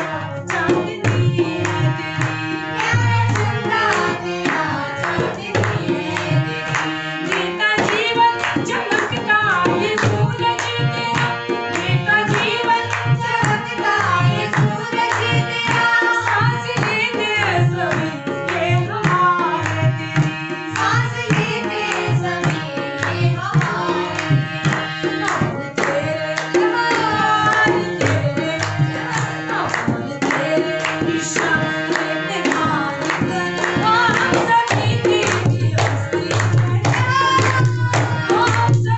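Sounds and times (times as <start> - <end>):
hand drum rhythm: 0.0 - 38.9
harmonium: 0.0 - 38.9
people clapping along: 0.0 - 38.9
woman singing: 0.0 - 38.9.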